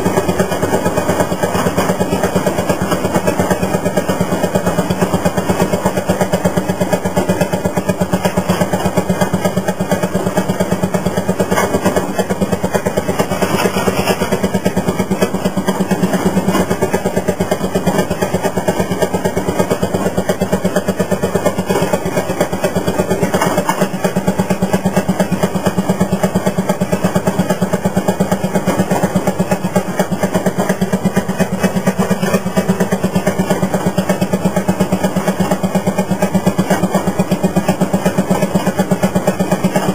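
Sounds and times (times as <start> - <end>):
two-stroke engine putt-putt: 0.0 - 39.9.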